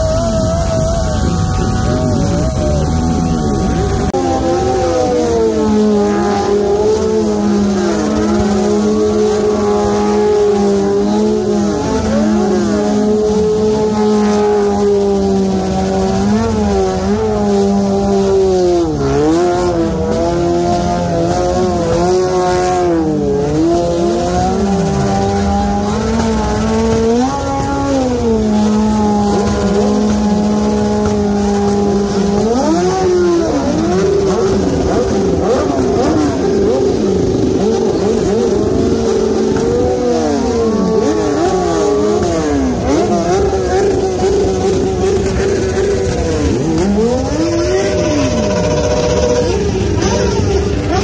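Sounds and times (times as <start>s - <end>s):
motorcycle engine revving hard: 0.0s - 51.0s
other engines revving: 0.0s - 51.0s.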